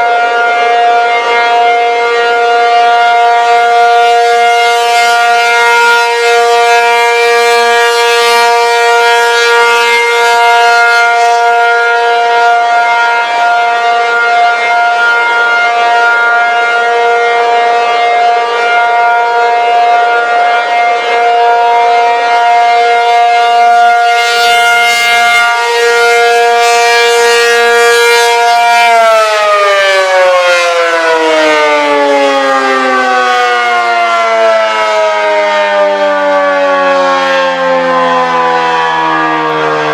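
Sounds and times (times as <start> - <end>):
two-tone tornado siren: 0.0 - 39.9.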